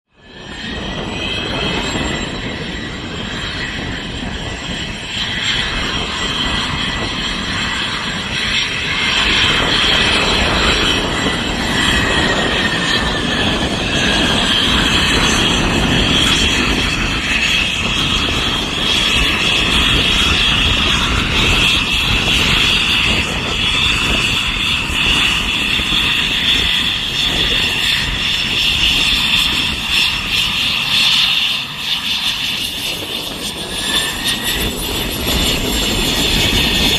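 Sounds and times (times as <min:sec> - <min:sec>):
jet engines whining at takeoff: 0:00.0 - 0:36.9.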